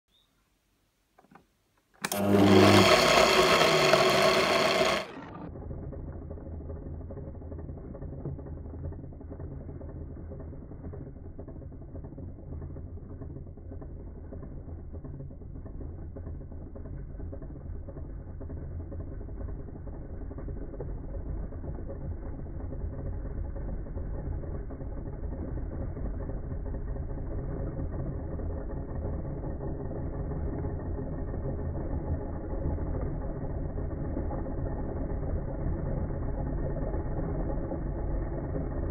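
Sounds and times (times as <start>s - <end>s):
muffled low motor hum: 0.9s - 38.9s
blender whirring: 2.0s - 17.8s, 18.5s - 38.9s.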